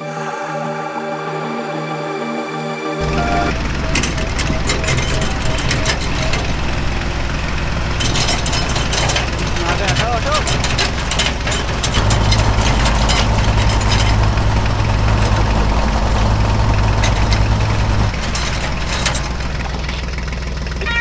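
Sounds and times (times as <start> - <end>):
heavy engine idling: 3.0 - 21.0.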